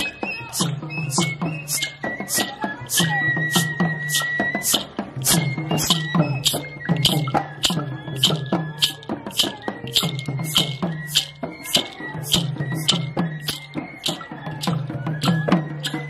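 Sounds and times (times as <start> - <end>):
low drum strokes bending in pitch: 0.0 - 16.0
shaker or jingle hits: 0.0 - 16.0.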